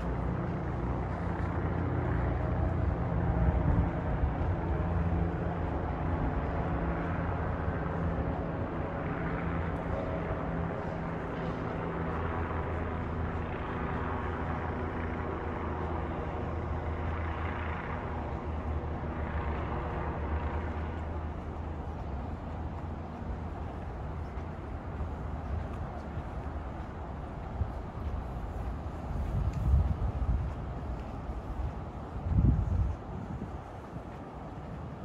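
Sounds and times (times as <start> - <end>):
low traffic hum: 0.0 - 35.0
vehicles passing: 0.0 - 35.0.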